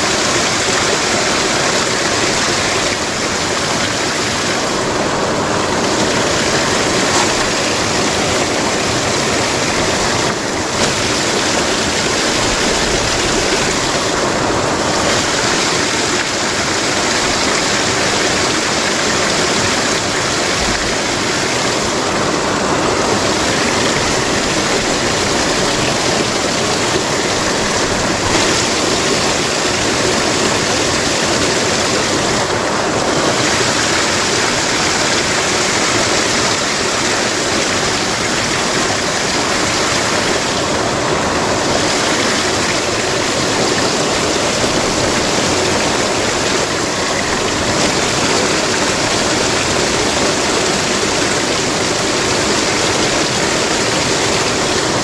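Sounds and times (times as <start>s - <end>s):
rippling river water rushing: 0.0s - 55.0s.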